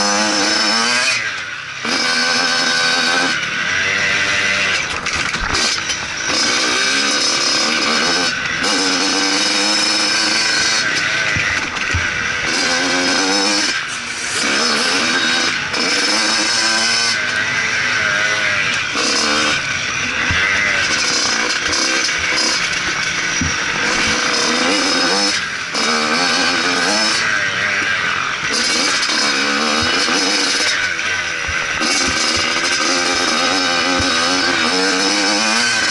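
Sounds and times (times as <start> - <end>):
motocross motorcycle engine revving: 0.0 - 35.9.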